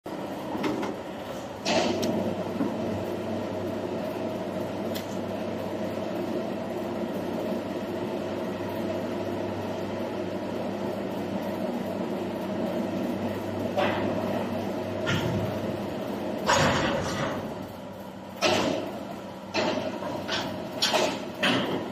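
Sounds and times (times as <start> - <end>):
plastic moulding machinery humming: 0.1 - 21.9.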